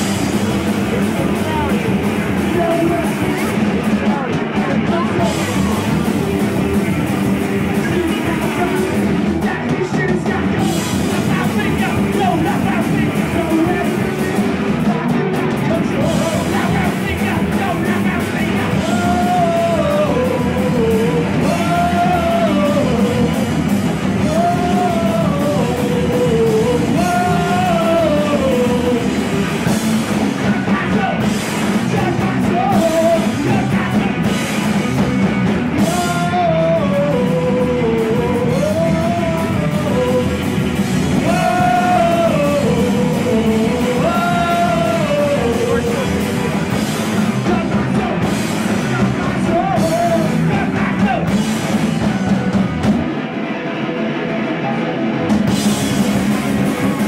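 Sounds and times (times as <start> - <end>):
sung and shouted vocals: 0.0 - 53.0
live rock band playing: 0.0 - 57.0.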